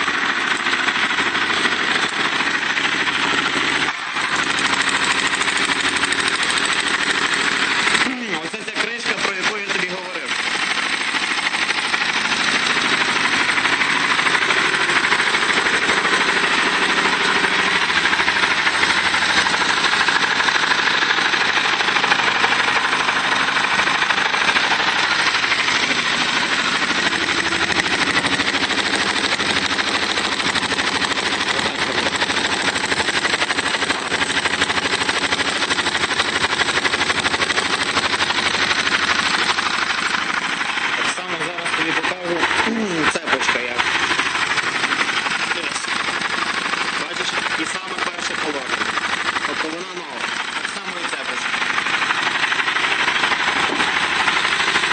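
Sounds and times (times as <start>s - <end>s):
motorcycle engine idling: 0.0s - 54.9s.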